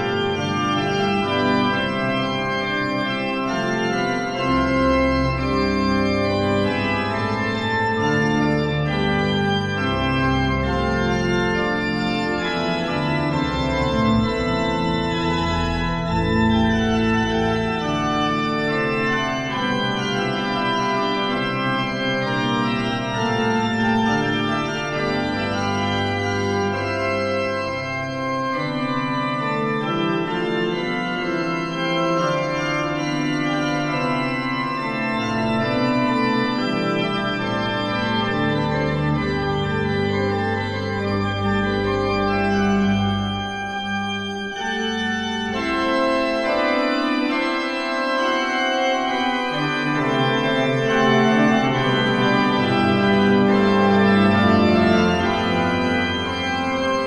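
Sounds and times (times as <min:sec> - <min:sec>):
pipe organ music: 0:00.0 - 0:57.0.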